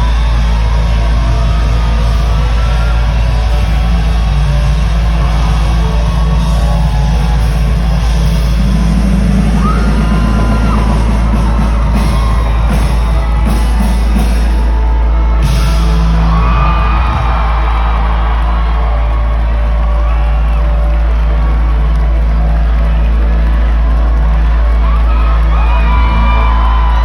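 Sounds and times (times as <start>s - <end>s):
audience whooping and yelling: 0.0s - 27.0s
loud live rock music: 0.0s - 27.0s.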